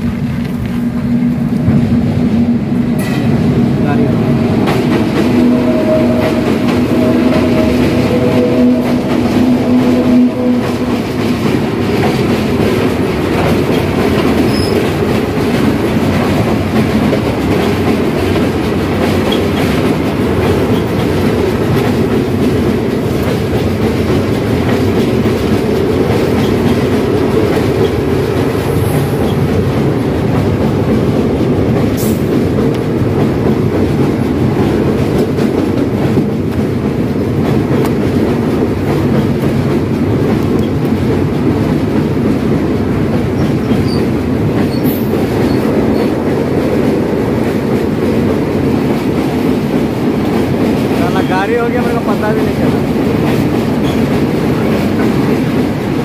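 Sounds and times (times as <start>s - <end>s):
train wheels rumbling on bridge: 0.0s - 56.0s.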